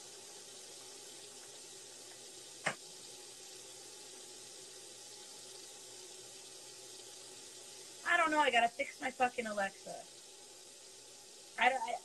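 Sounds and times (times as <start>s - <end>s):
faint room tone hiss: 0.0s - 12.0s.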